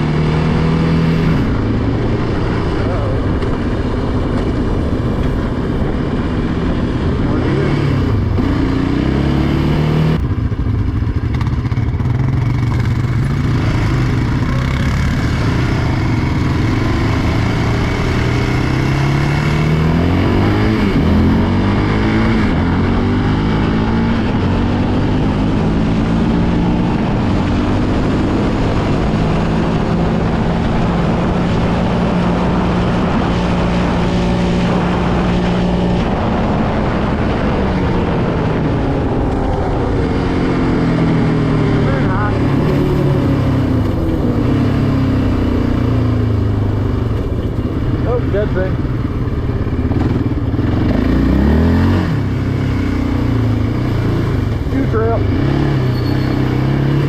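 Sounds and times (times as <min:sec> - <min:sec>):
quad engine revving: 0:00.0 - 0:10.3, 0:11.2 - 0:57.0.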